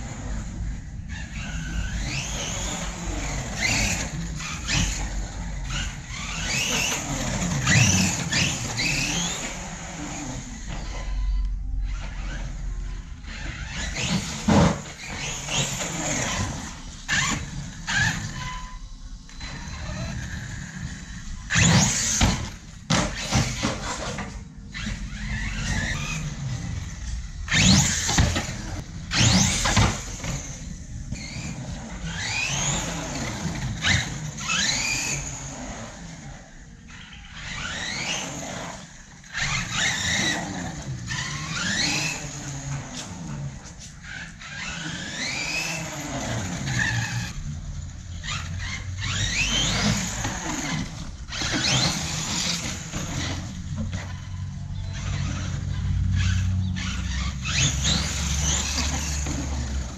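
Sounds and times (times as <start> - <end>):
electric motor whining: 0.0 - 59.9
tyres squealing on concrete: 1.1 - 59.9.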